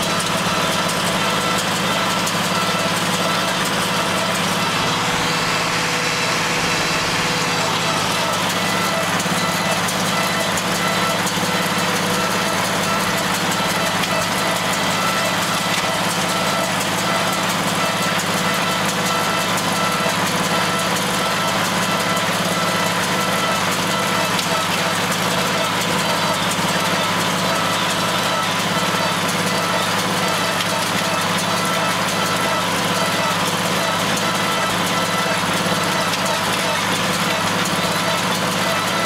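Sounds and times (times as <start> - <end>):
tractor engine under load: 0.0 - 39.0.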